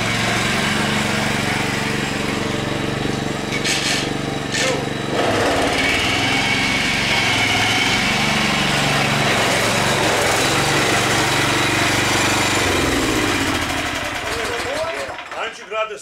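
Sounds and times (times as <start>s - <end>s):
small gasoline engine running: 0.0s - 15.5s.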